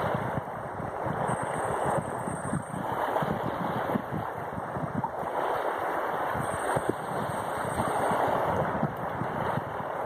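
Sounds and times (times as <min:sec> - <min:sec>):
small waves washing on shore: 0:00.0 - 0:10.0
wind buffeting microphone: 0:00.0 - 0:10.0.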